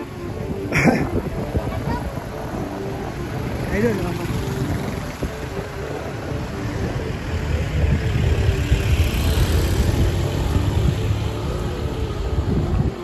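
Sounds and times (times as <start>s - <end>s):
car engines running: 0.0s - 13.0s
vehicles passing: 0.0s - 13.0s.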